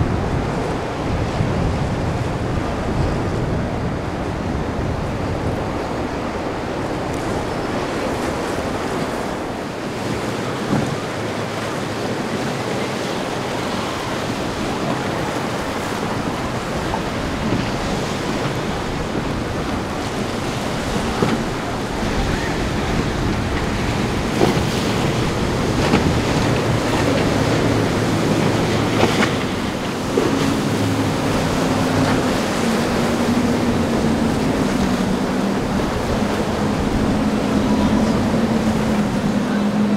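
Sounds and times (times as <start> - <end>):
boat engine hum: 0.0 - 39.9
breaking waves: 0.0 - 39.9
wind buffeting microphone: 0.0 - 39.9.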